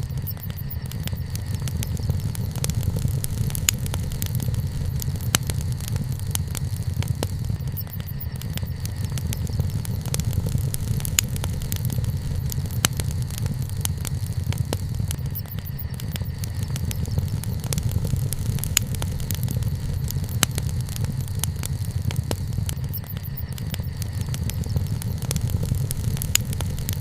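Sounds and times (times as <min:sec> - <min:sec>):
campfire crackling and popping: 0:00.0 - 0:27.0
low rumble of campfire: 0:00.0 - 0:27.0.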